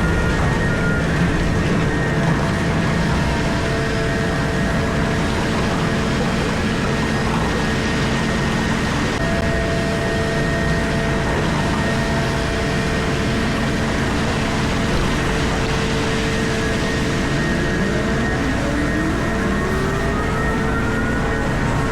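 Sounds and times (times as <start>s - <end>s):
excavator machine drone: 0.0s - 21.9s
faint whining tones: 0.0s - 21.9s.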